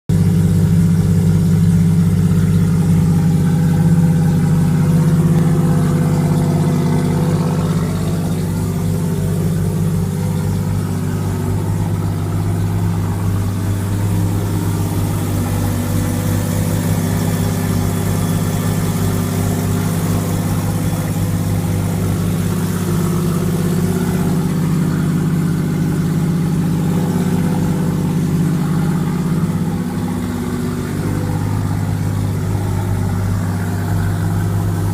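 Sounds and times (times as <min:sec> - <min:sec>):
race car engine idling: 0:00.1 - 0:34.9.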